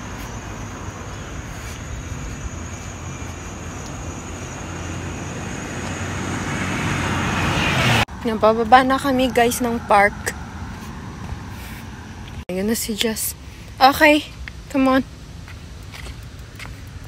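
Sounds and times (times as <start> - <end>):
car tyres on wet street: 0.0 - 12.5, 13.4 - 17.0.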